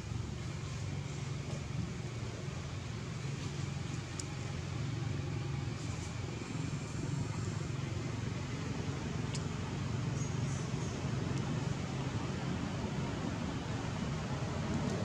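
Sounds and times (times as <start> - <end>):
low background hum and rumble: 0.0 - 15.0.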